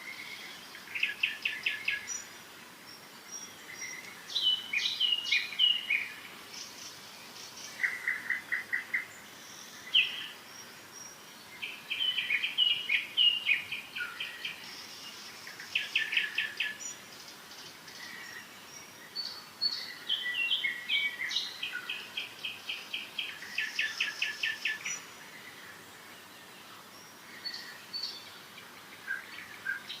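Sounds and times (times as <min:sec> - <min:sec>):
birds singing trills and chirps: 0:00.0 - 0:30.0.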